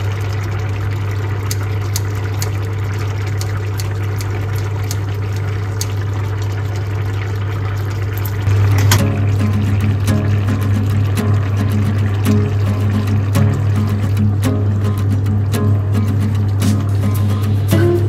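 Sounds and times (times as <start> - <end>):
low electrical appliance hum: 0.0 - 18.0.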